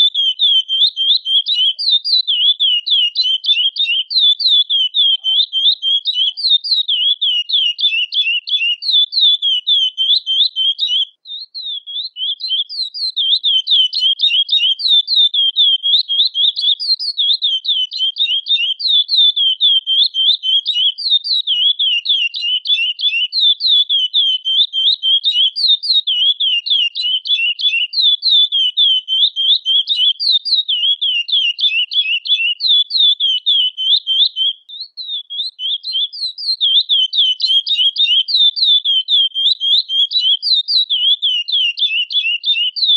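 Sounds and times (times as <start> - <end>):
finch calling: 0.0 - 42.9.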